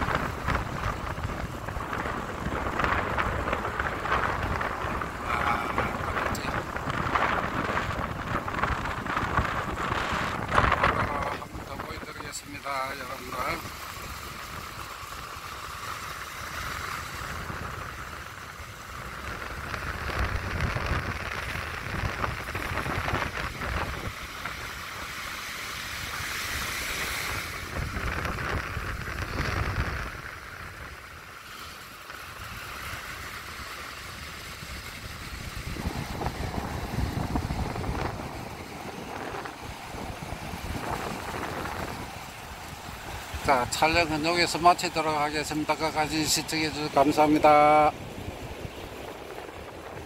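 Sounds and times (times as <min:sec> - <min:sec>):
surf breaking on beach: 0:00.0 - 0:50.0
wind buffeting microphone: 0:00.0 - 0:50.0.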